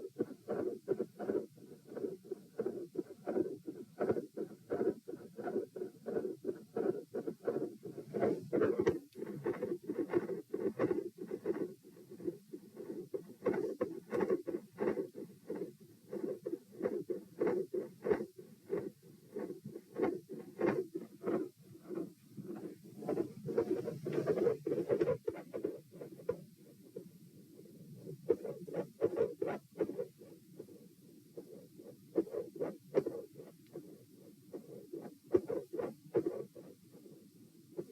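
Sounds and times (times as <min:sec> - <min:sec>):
heartbeat: 0:00.0 - 0:37.9.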